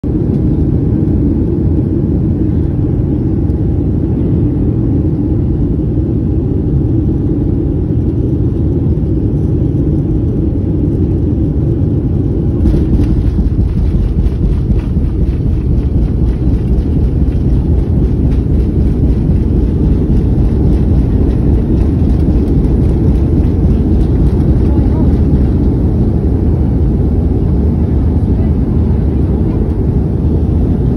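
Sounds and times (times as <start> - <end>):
jet engines and airflow rumble: 0.0 - 30.9.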